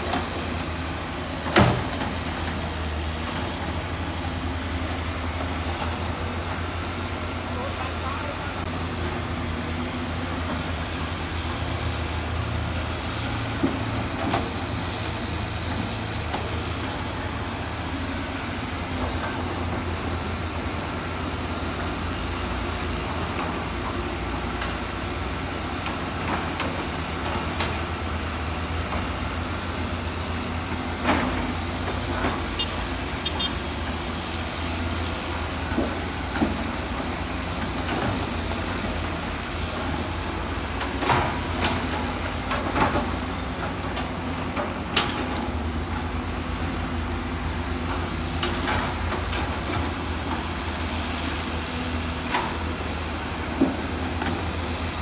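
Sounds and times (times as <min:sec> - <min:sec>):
diesel construction machinery rumbling: 0:00.0 - 0:55.0.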